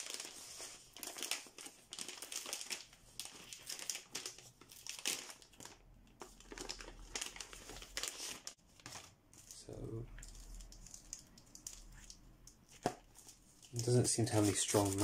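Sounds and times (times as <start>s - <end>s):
plastic bag crinkling: 0.0s - 12.2s, 13.0s - 15.0s.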